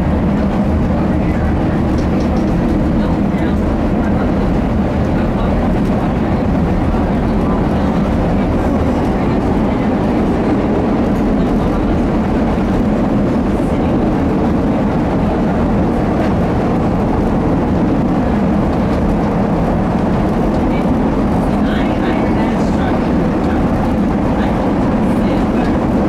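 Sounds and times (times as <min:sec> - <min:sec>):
train rumbling at speed: 0:00.0 - 0:26.0.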